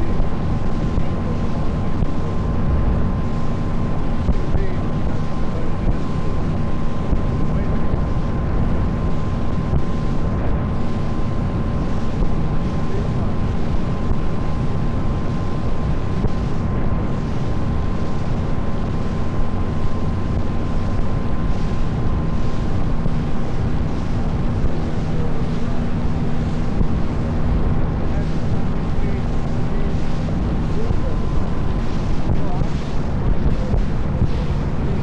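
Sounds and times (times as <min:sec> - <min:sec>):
motor boat engine droning: 0:00.0 - 0:35.0
wind buffeting microphone: 0:00.0 - 0:35.0.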